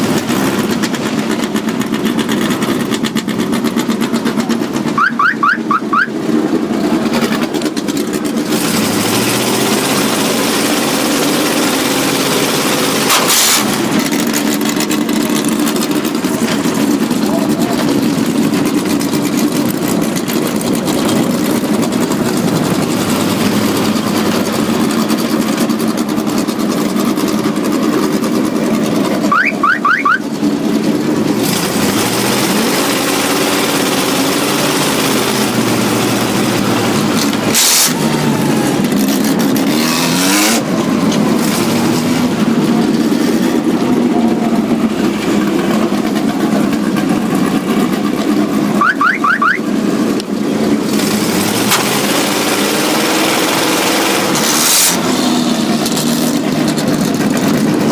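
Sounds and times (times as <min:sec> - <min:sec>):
vehicle engines revving: 0:00.0 - 0:57.9.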